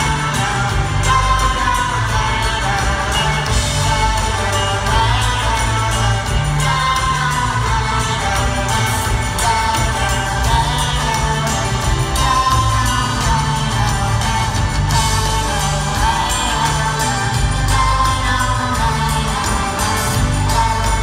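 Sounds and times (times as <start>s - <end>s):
live band with singing over pa: 0.0s - 21.0s.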